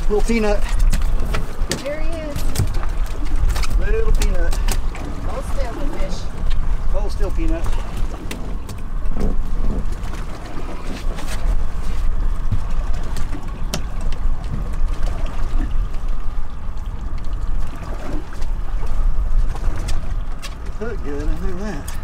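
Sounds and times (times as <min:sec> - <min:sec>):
boat rumble: 0:00.0 - 0:22.0
water noise: 0:00.0 - 0:22.0.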